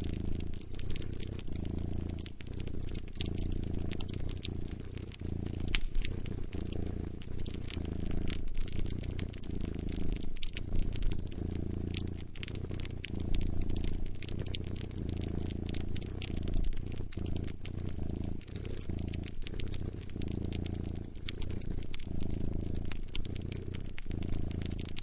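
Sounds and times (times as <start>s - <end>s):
cat purring: 0.0s - 25.0s
wood fire crackling: 0.0s - 25.0s.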